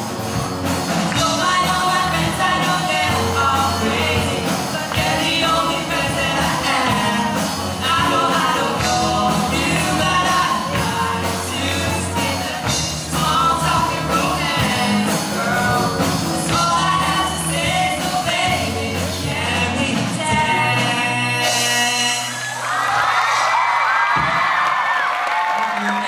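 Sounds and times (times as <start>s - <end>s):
drum kit: 0.0s - 24.8s
person singing: 1.1s - 22.5s.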